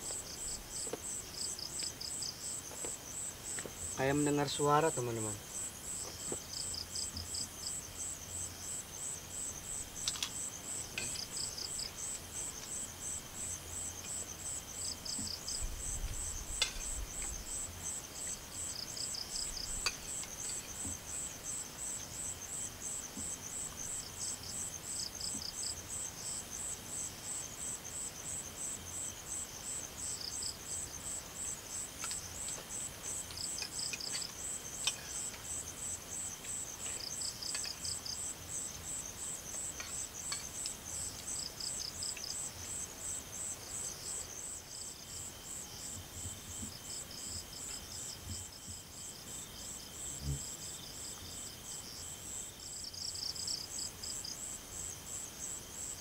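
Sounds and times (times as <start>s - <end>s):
insect chirping in bursts: 0.0s - 56.0s
insects trilling: 0.0s - 56.0s.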